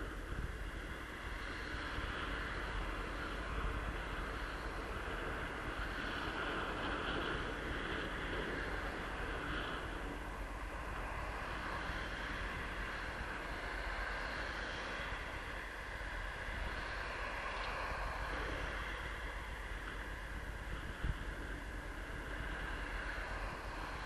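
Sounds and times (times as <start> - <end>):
road noise: 0.0 - 24.0
wind noise: 0.0 - 24.0.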